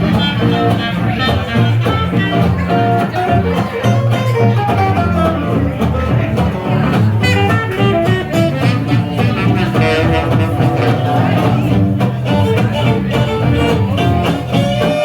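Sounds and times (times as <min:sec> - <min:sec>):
fiddle melody: 0:00.0 - 0:15.0
plucked guitar: 0:00.0 - 0:15.0
walking double bass: 0:00.0 - 0:15.0.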